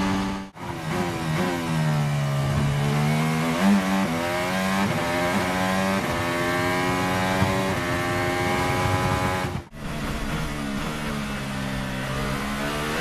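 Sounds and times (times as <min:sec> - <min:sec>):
racing car engine accelerating: 0:00.0 - 0:13.0.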